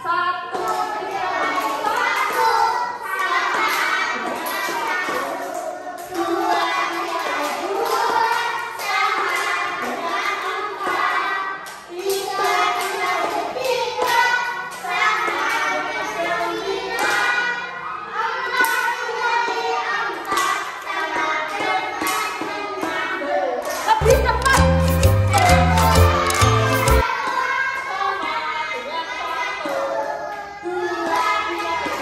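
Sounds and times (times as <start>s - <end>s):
children singing together: 0.0s - 32.0s.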